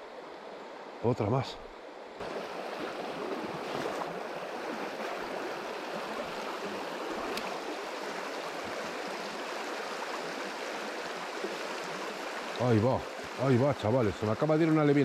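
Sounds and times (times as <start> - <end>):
water rushing over stones: 2.2 - 15.0.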